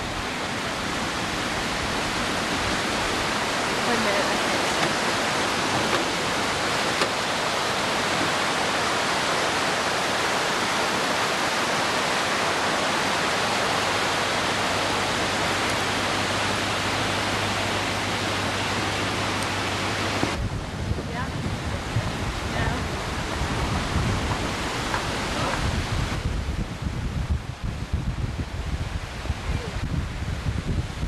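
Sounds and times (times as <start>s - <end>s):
floodwater roaring: 0.0s - 31.0s.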